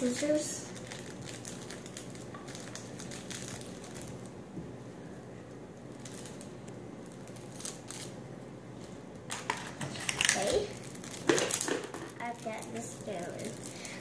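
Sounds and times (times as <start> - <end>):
plastic bag crinkling: 0.0 - 4.4, 5.8 - 14.0.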